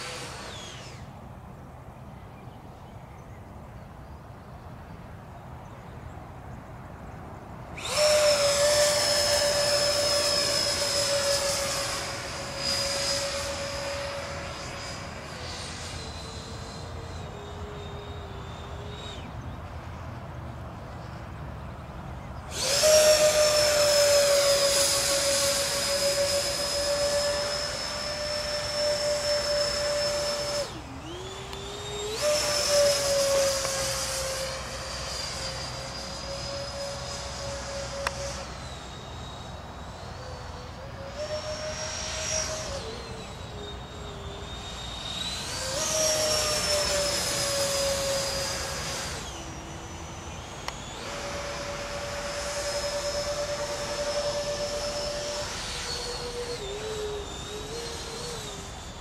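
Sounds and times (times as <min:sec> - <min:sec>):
electric fans whining: 0:00.0 - 0:59.0.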